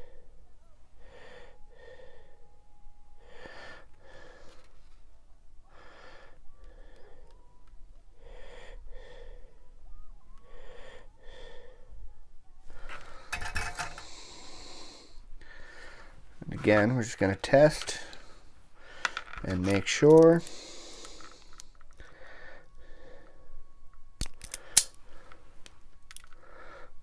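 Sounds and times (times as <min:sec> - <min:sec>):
person breathing: 0:00.0 - 0:16.8, 0:17.8 - 0:23.8, 0:24.4 - 0:27.0.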